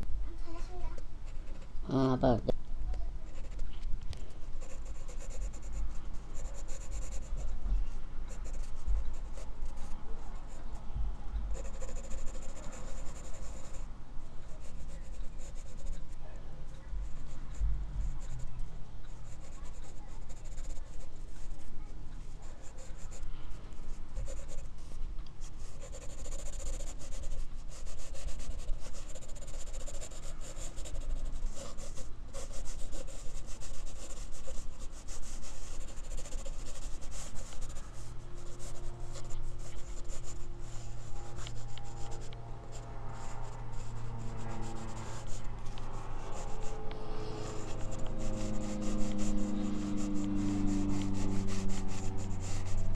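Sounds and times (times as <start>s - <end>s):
pencil scratching on paper: 3.3s - 3.8s, 4.5s - 7.6s, 8.3s - 10.8s, 11.4s - 52.9s.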